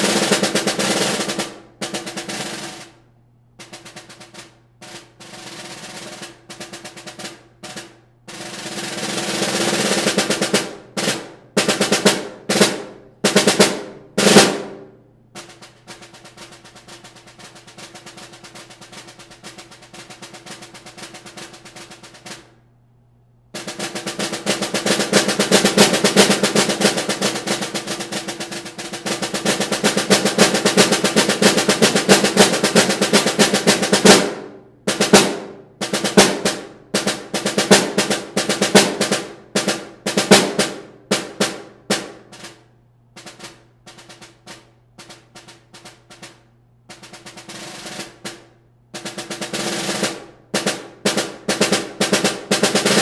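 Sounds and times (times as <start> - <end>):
snare drum rolls: 0.0 - 22.8, 23.4 - 53.0.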